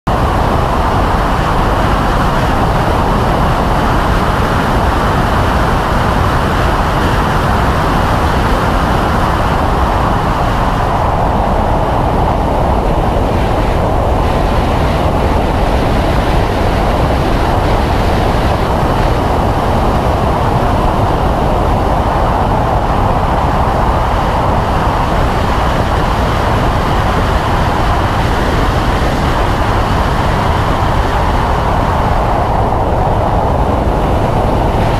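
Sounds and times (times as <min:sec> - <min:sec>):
wind and road noise: 0:00.0 - 0:34.9
car engine at full throttle: 0:00.1 - 0:34.9.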